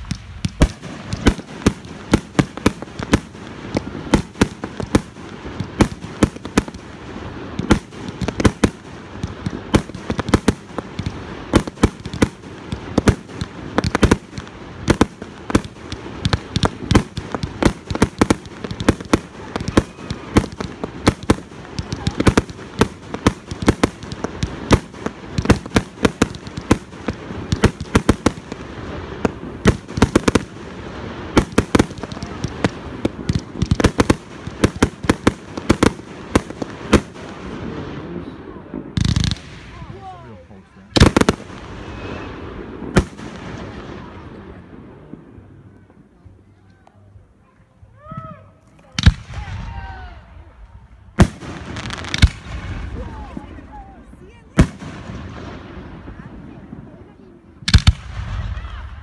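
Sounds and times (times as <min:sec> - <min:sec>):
fireworks bangs: 0:00.0 - 0:46.4, 0:48.8 - 0:59.0
fireworks crackling: 0:00.0 - 0:59.0.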